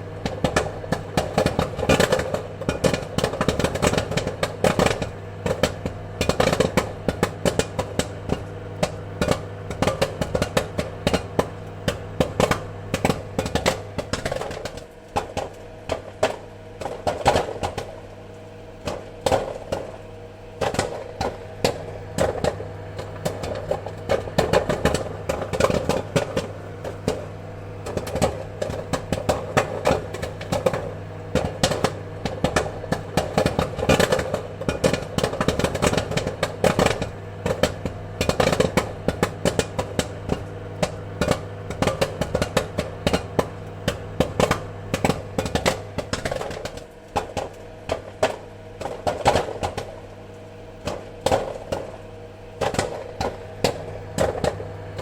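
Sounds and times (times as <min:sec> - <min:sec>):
popcorn popping: 0:00.0 - 0:55.0
steady low hum: 0:00.0 - 0:55.0.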